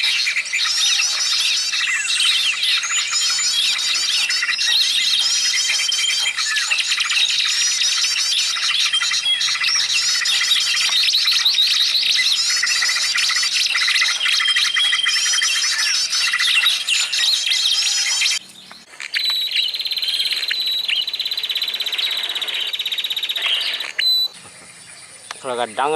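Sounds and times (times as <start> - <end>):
chorus of small birds chirping: 0.0 - 25.9.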